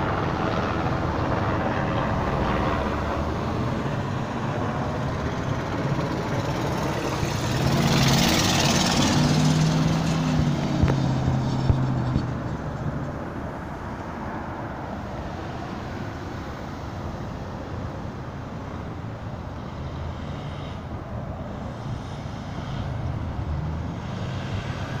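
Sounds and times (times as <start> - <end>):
low engine hum: 0.0 - 25.0
road traffic noise: 0.0 - 25.0.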